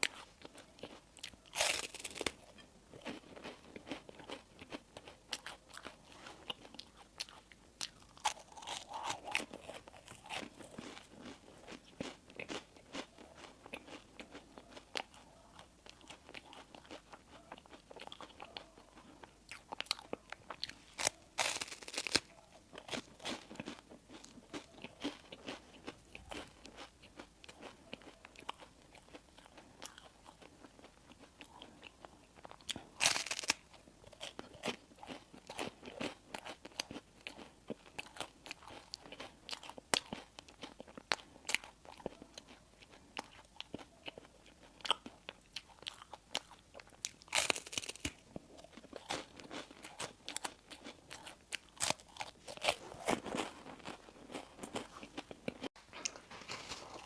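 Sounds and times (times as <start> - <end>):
biting and chewing bread: 0.0 - 57.0.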